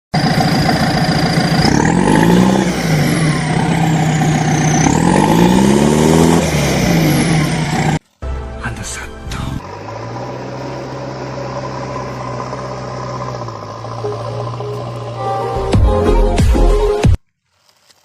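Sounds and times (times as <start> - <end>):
truck engine idling and revving: 0.1 - 17.2.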